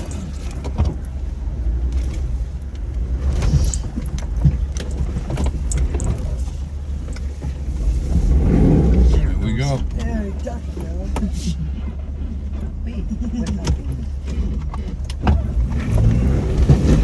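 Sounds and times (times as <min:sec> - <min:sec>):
off-road vehicle engine rumble: 0:00.0 - 0:17.0.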